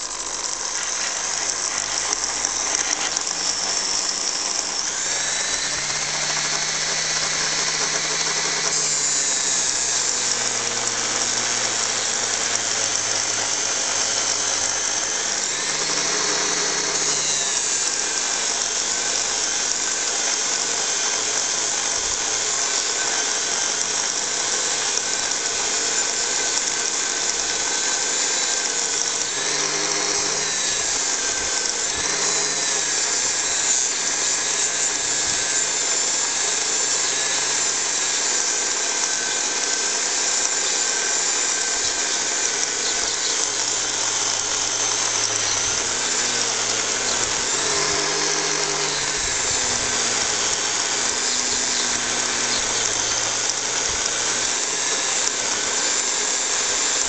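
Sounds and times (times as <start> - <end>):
bench grinder motor whine: 0.0 - 57.0.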